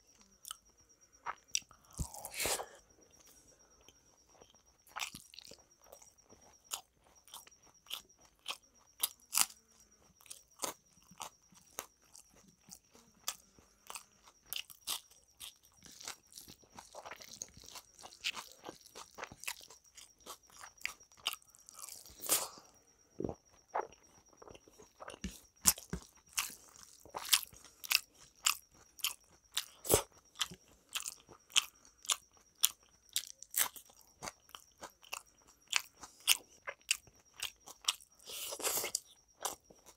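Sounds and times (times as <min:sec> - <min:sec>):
person chewing food: 0:00.1 - 0:39.9.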